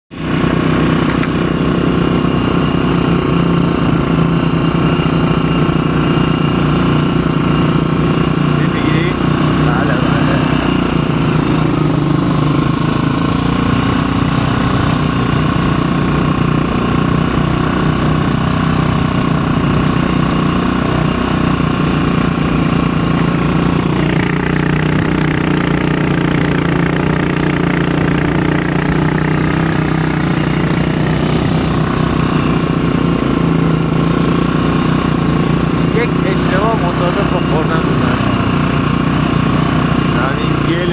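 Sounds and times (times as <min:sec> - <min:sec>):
motorcycle engine running: 0:00.1 - 0:40.9.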